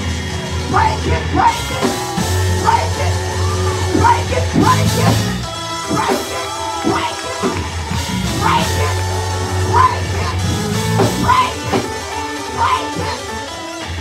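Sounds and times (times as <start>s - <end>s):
drums: 0.0s - 14.0s
keyboard sustained chords: 0.0s - 14.0s
preacher shouting into microphone: 0.6s - 13.5s.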